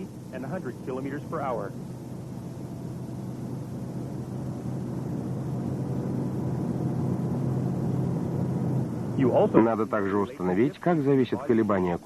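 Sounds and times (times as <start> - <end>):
car driving at highway speed: 0.0 - 10.3.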